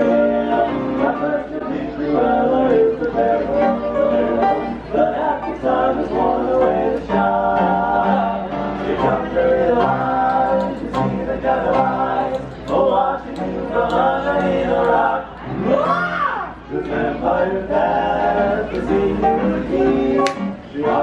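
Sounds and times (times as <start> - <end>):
voices singing in harmony: 0.0 - 21.0.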